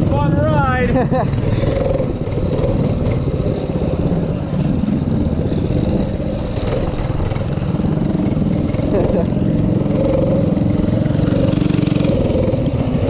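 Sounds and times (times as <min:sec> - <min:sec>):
minibike engine running: 0:00.0 - 0:13.0.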